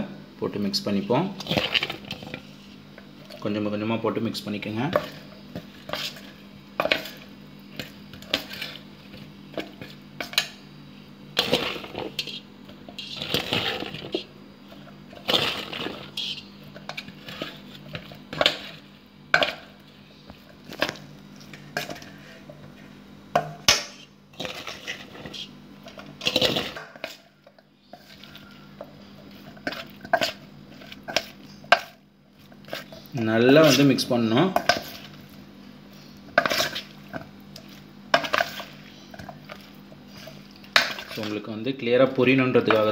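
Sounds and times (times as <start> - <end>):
wet mixing by hand: 1.0 - 3.6, 4.6 - 10.4, 11.4 - 22.8, 23.6 - 42.9.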